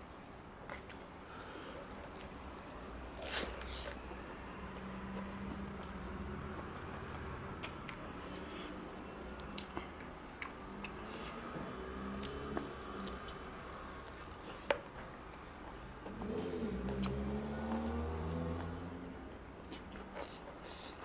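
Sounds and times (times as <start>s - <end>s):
wet chewing mouth sounds: 0.0s - 21.0s.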